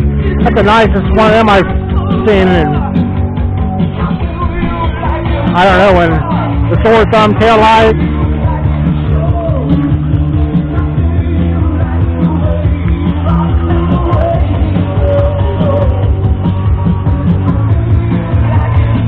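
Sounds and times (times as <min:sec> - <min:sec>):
rock and roll song: 0:00.0 - 0:19.0.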